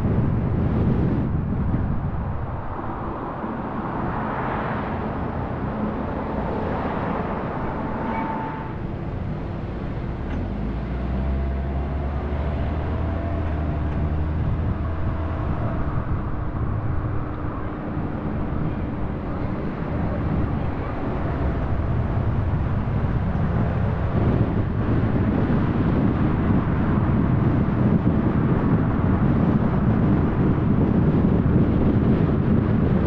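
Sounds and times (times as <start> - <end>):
low engine drone: 0.0 - 33.0
tyre and road noise: 0.0 - 33.0.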